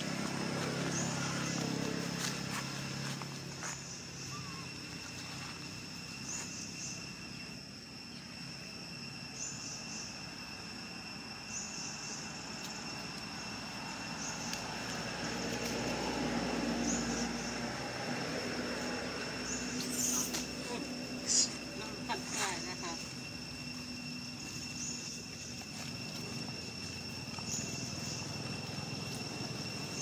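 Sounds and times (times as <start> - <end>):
insects calling: 0.0 - 30.0.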